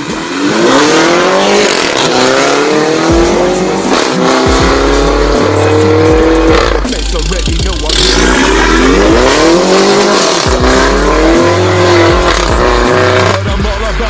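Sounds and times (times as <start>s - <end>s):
car engine accelerating through gears: 0.0s - 13.5s.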